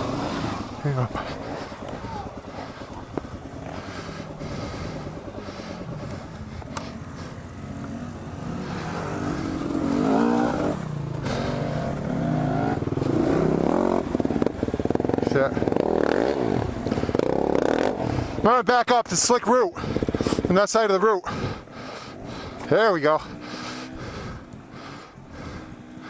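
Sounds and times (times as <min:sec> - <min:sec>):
motorcycle engine revving: 0:00.0 - 0:18.6, 0:19.7 - 0:26.0.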